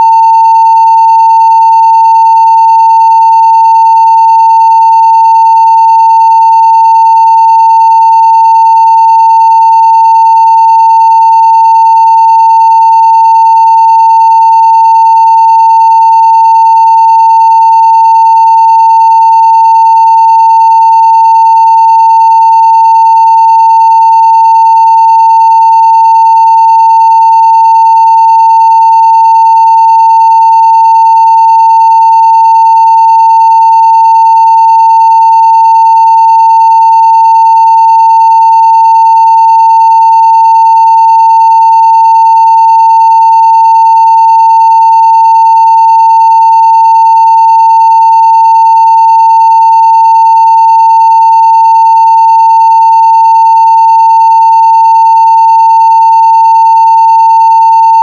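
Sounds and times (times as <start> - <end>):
sine wave test tone: 0.0 - 58.0.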